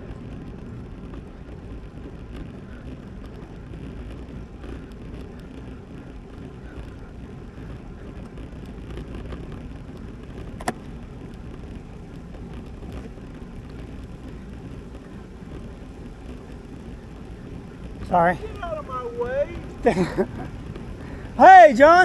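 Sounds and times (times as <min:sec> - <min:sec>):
bicycle wind and tyre noise: 0:00.0 - 0:22.0.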